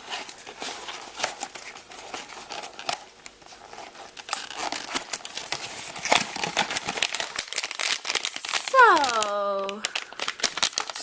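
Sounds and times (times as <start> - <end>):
cardboard packaging tearing: 0.0 - 11.0.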